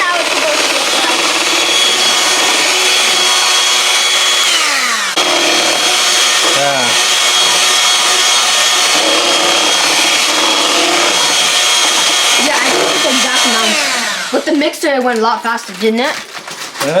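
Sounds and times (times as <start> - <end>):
electric hand mixer whining: 0.0 - 15.5.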